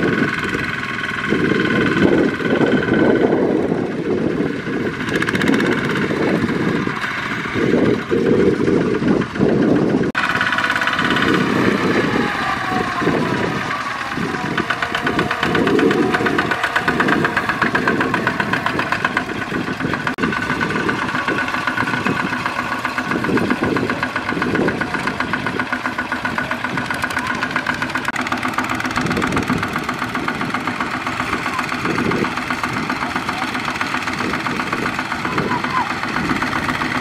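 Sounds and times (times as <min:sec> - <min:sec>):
diesel engines knocking: 0:00.0 - 0:37.0.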